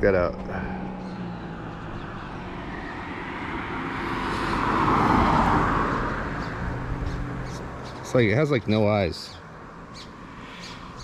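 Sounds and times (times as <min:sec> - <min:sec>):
vehicle passing by: 0:00.0 - 0:08.6, 0:09.6 - 0:11.0.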